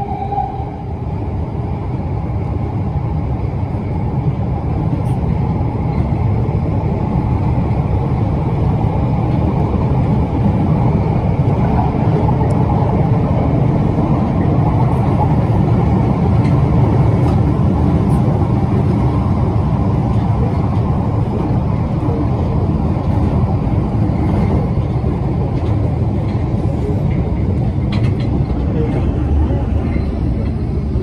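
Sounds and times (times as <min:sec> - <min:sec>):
train wheels rumbling in tunnel: 0:00.0 - 0:31.0.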